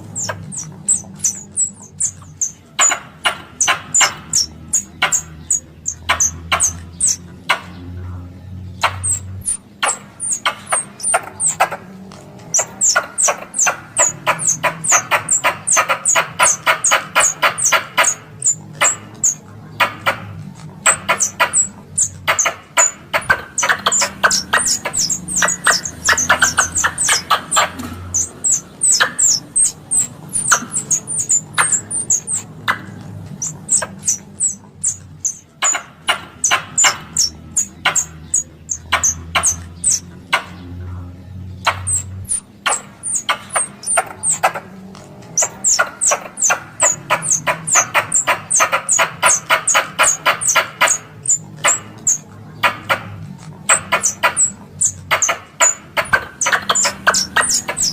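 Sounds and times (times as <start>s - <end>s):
squirrel chattering calls: 0.0s - 57.9s.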